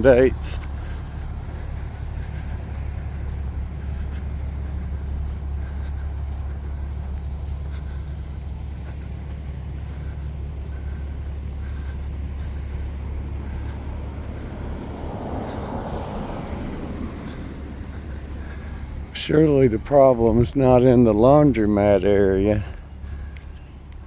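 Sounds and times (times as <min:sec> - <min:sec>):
vehicle engine idling: 0:00.0 - 0:24.0
vehicle passing: 0:00.0 - 0:24.0.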